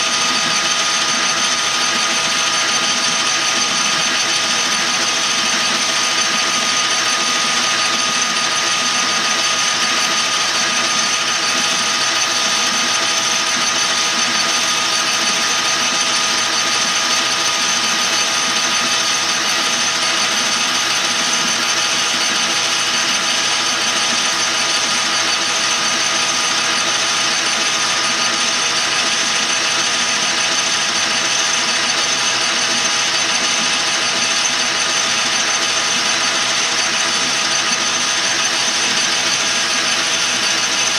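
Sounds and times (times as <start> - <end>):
metal lathe whirring: 0.0 - 40.9.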